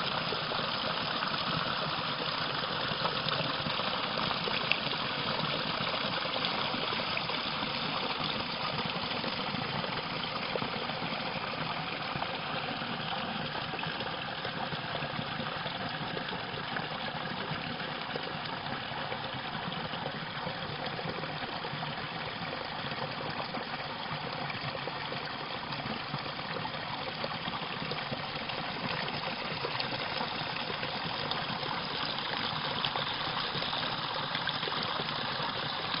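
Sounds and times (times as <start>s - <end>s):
water rushing down a cascade: 0.0s - 36.0s.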